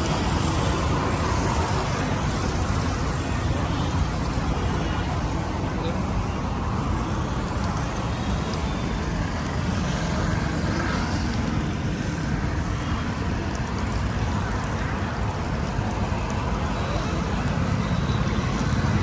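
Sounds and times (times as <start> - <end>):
oil sizzling from deep-frying: 0.0 - 19.0
street traffic: 0.0 - 19.0.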